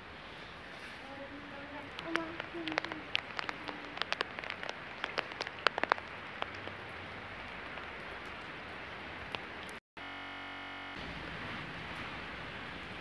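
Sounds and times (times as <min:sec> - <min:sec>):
rain falling: 0:00.0 - 0:09.8, 0:11.0 - 0:13.0
raindrops ticking on surface: 0:00.4 - 0:09.8, 0:11.0 - 0:13.0.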